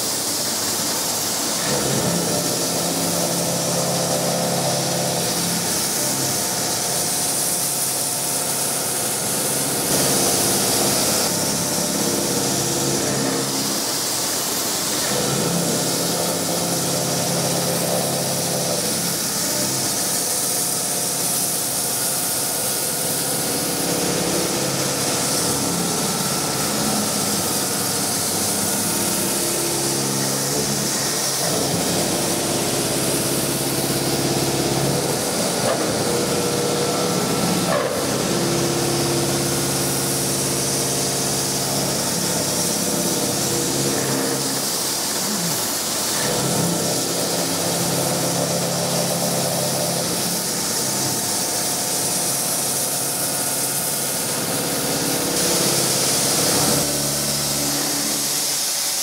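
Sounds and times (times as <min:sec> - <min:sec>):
milling machine cutting noise: 0:00.0 - 0:59.0.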